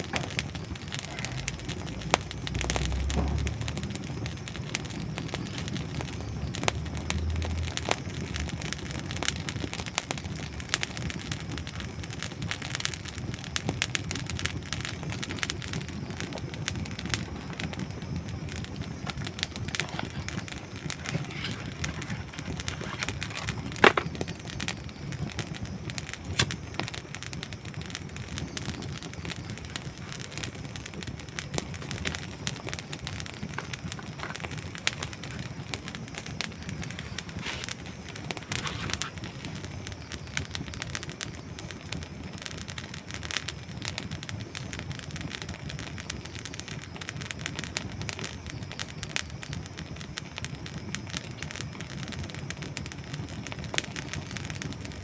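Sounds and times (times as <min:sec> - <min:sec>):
campfire burning: 0:00.0 - 0:55.0
logs crackling and popping: 0:00.0 - 0:55.0.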